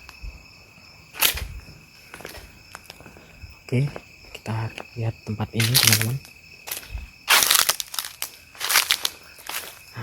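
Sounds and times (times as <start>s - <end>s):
crickets chirping: 0.0s - 10.0s
footsteps crunching on dry ground: 0.0s - 10.0s.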